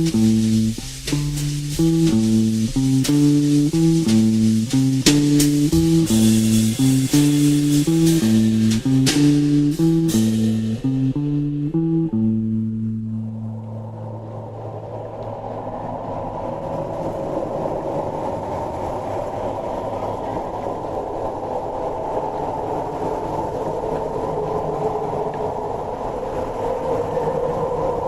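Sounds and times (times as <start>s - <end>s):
dense rumbling noise texture: 0.0s - 28.0s.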